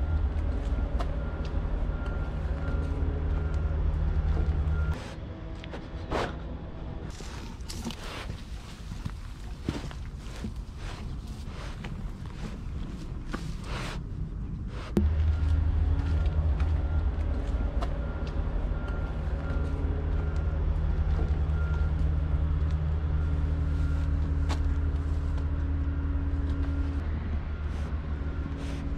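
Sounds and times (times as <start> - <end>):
low mechanical rumble: 0.0 - 28.9.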